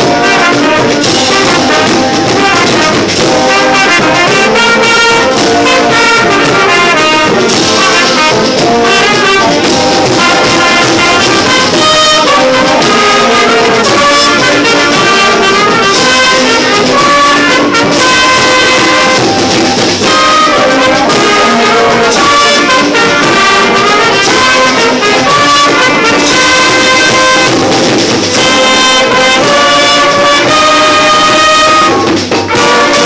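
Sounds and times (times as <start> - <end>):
marching drums: 0.0 - 33.0
trumpets playing a melody: 0.0 - 33.0.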